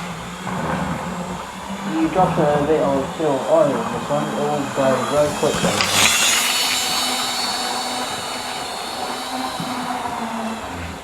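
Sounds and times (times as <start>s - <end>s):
model train motor whining: 0.0s - 11.0s
wheels dragging on track: 0.0s - 11.0s.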